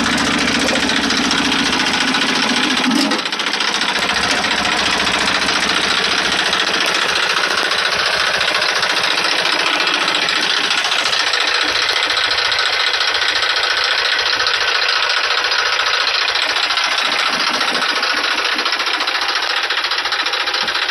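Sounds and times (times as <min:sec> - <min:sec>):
tractor diesel engine clatter: 0:00.0 - 0:20.9.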